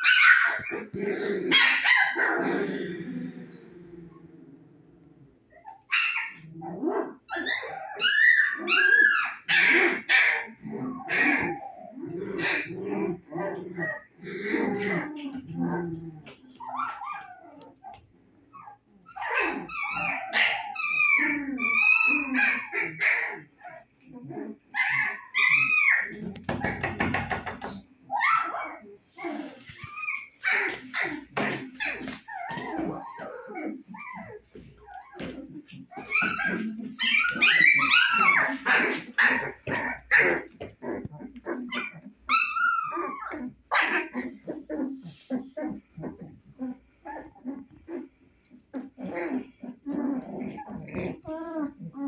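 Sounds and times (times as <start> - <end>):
puppies squealing and yipping: 0.0 - 2.4, 5.5 - 12.7, 16.4 - 23.9, 24.7 - 26.8, 28.0 - 52.0.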